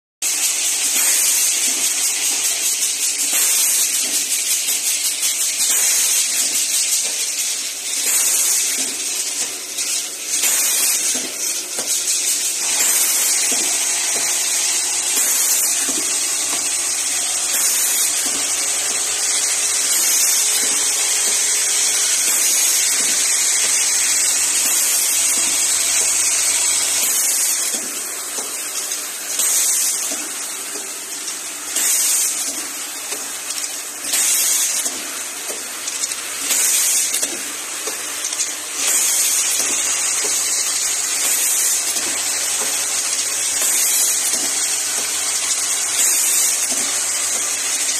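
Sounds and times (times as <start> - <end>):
filling machine hissing: 0.2 - 47.9.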